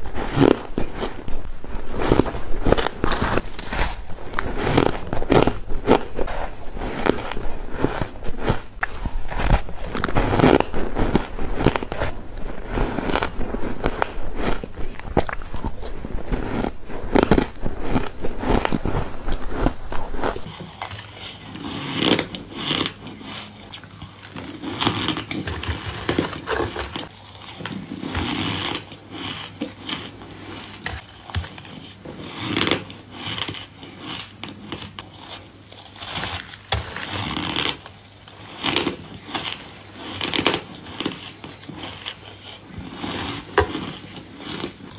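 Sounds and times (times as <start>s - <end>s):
person crunching ice: 0.0s - 44.9s.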